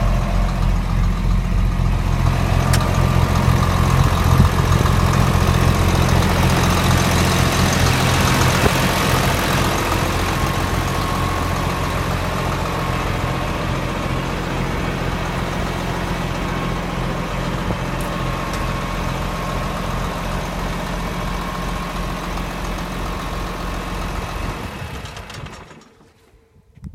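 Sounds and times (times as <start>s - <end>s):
tractor diesel engine idling: 0.0s - 26.4s.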